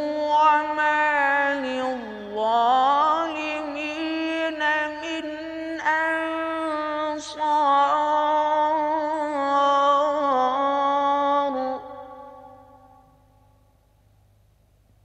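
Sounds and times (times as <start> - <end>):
man reciting melodically: 0.0 - 12.0
voice echo: 0.0 - 14.0.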